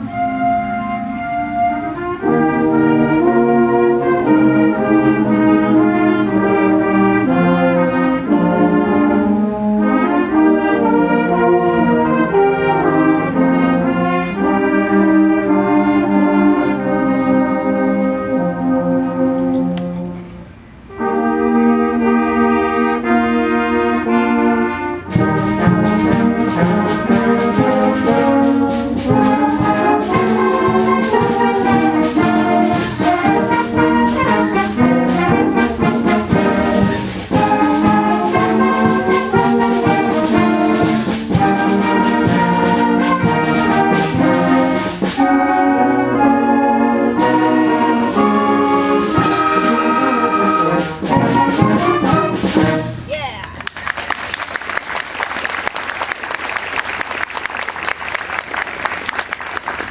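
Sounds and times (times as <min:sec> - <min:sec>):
held brass chord: 0:00.0 - 0:53.1
wind band playing: 0:00.0 - 0:59.9.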